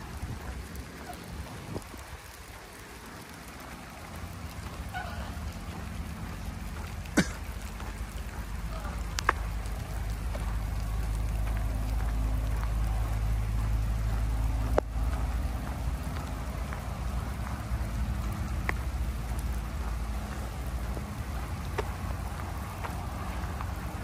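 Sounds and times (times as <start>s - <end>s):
wheels rolling over asphalt: 0.0s - 24.0s.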